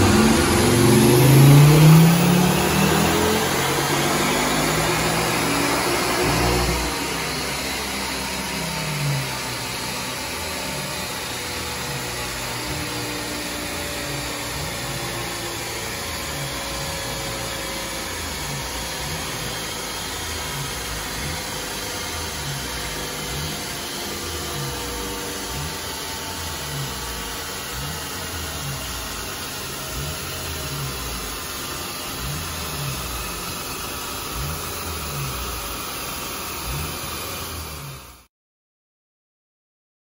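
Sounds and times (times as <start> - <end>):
car engine revving down and idling: 0.0 - 38.3.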